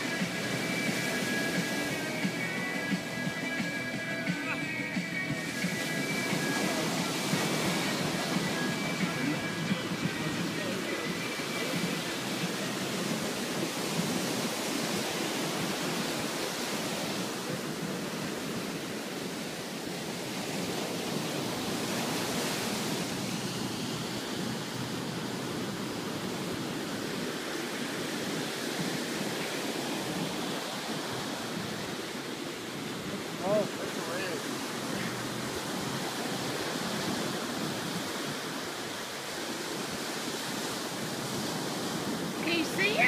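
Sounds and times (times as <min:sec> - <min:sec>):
ocean surf breaking on beach: 0:00.0 - 0:43.0.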